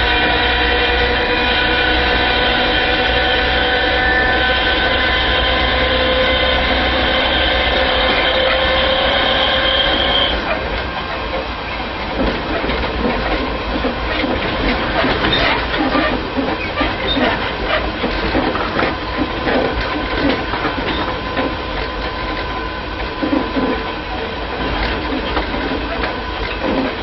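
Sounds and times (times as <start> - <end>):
steady rumble: 0.0 - 27.0
train wheels clattering over track: 0.0 - 27.0.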